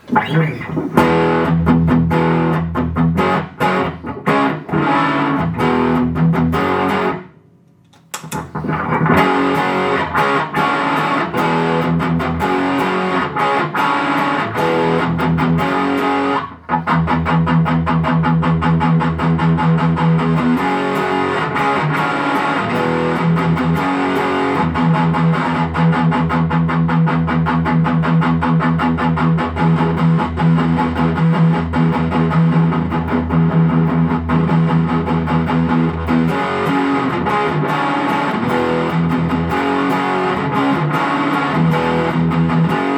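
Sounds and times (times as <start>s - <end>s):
distorted electric guitar riffing: 0.0s - 7.3s, 8.3s - 42.9s.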